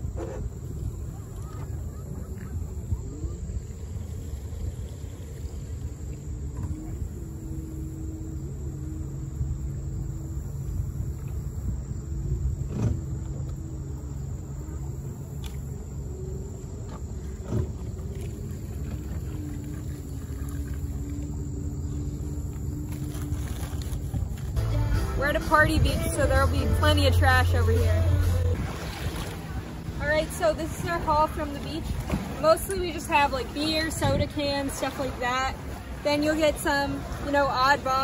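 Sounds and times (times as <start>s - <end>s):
boat motor idling: 0.0s - 38.0s
low rumble: 0.0s - 38.0s.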